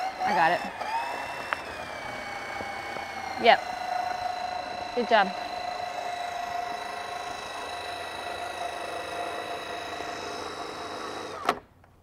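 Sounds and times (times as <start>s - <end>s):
electric motor whining: 0.0s - 11.6s
motor stopping knock: 0.0s - 11.6s.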